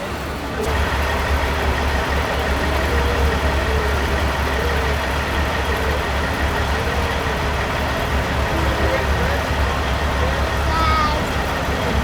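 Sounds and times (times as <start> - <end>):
truck diesel engine idling: 0.6 - 12.0.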